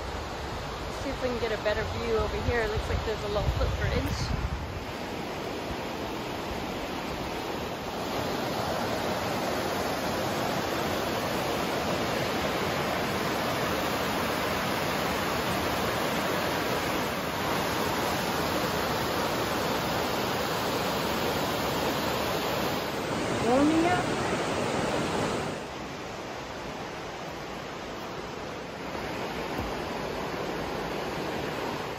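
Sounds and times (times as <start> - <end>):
river water rushing over dam: 0.0 - 31.9.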